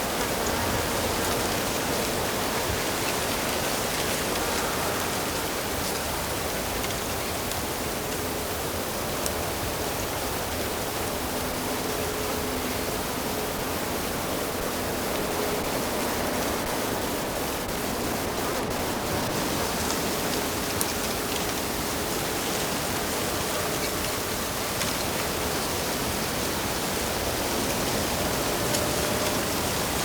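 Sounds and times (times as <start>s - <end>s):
stream rushing water: 0.0s - 30.0s.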